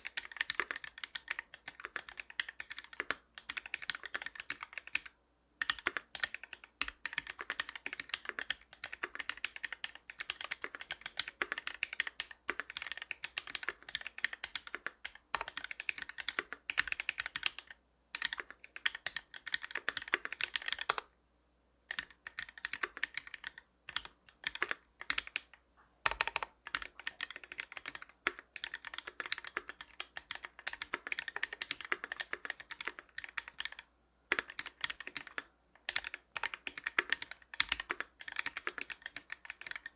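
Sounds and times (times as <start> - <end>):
mechanical keyboard typing: 0.0 - 21.1, 21.9 - 25.5, 26.1 - 39.9.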